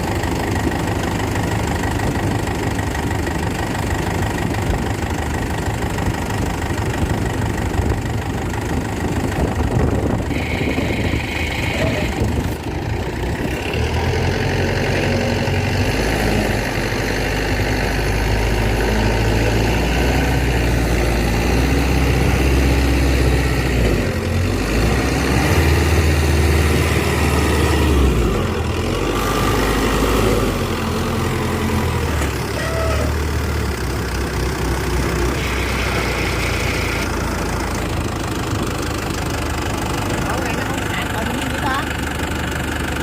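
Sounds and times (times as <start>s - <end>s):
combine harvester diesel engine: 0.0s - 43.0s.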